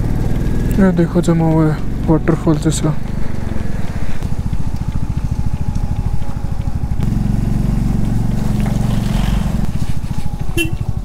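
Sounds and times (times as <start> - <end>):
motorcycle engine idling: 0.0 - 11.0
steady low drone: 0.0 - 11.0.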